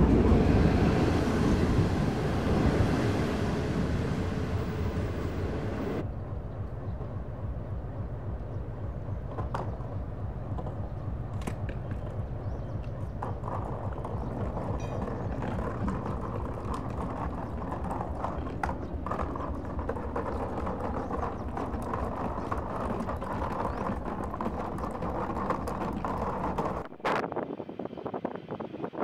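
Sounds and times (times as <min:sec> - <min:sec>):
wheels clattering over rails: 0:00.0 - 0:27.0
train rumbling: 0:00.0 - 0:29.0.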